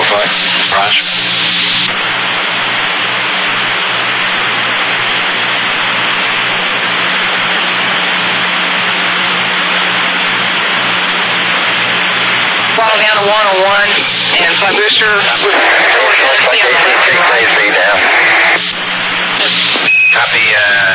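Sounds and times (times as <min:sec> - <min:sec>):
radio static hiss: 0:00.0 - 0:20.9.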